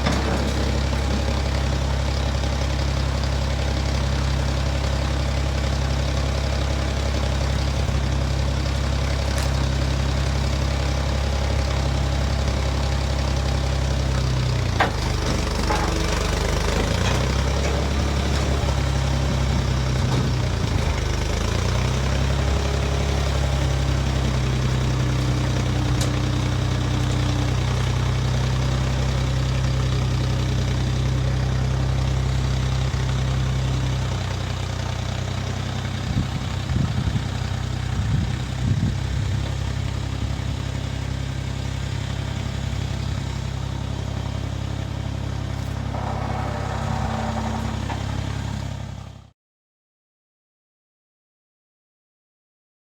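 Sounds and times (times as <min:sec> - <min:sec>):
large engine idling: 0:00.0 - 0:49.3.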